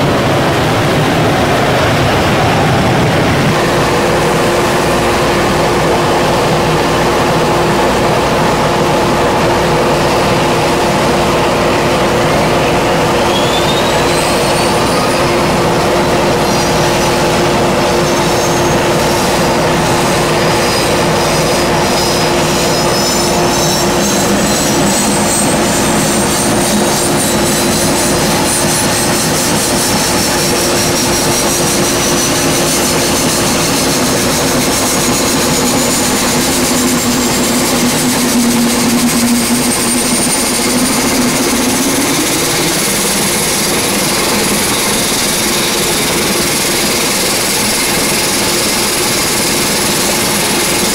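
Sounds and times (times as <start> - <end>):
aircraft turbine engine roar: 0.0 - 50.9
high engine whine: 0.0 - 50.9.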